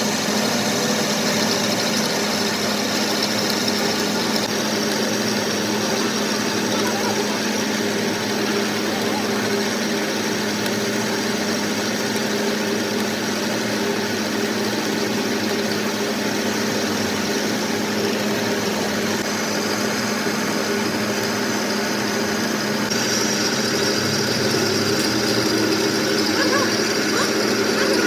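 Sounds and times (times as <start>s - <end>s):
workshop machine humming: 0.0s - 28.0s.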